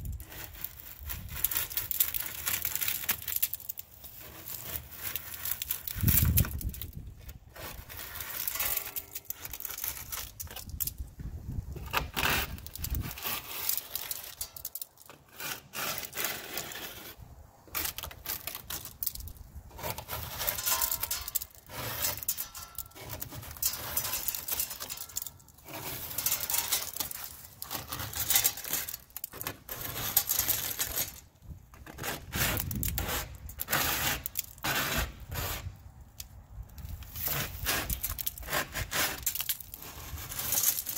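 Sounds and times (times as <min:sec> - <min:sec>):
plastic scraper scraping shells: 0:00.0 - 0:11.0, 0:11.8 - 0:35.8, 0:37.0 - 0:40.9.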